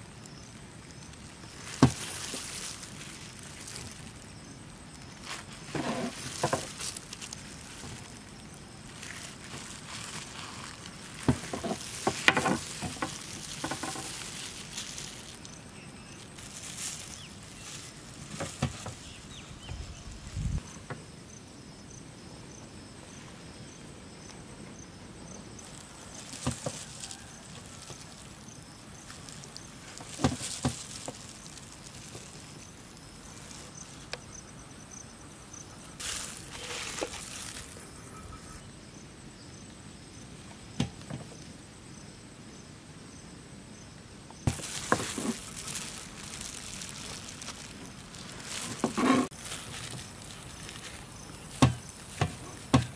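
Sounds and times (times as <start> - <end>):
faint insects chirping: 0.0 - 52.9.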